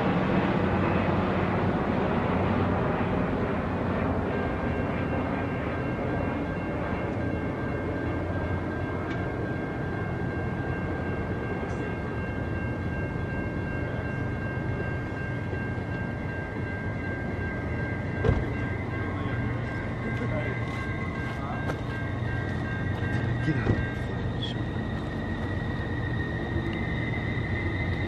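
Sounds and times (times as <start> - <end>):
freight train rumble: 0.0 - 28.0
high-pitched whine: 0.0 - 28.0.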